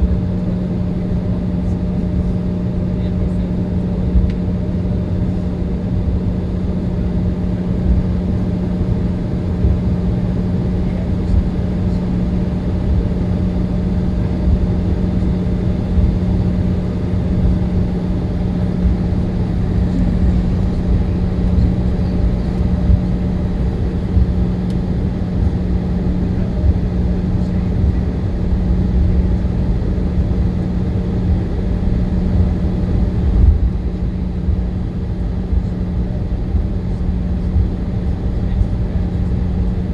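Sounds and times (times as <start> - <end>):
airliner cabin rumble and hum: 0.0 - 39.9.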